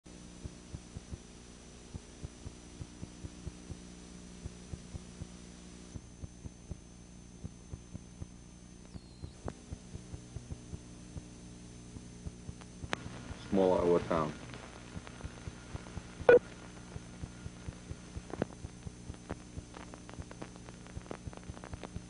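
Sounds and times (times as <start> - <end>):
electrical hum: 0.1 - 22.0
thin high whine: 2.6 - 22.0.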